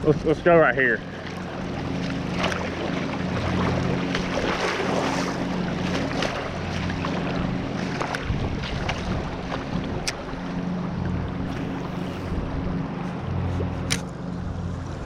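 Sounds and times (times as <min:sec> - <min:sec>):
rushing water: 0:00.0 - 0:15.0
small boat motor humming: 0:00.0 - 0:15.0
wind: 0:00.0 - 0:15.0.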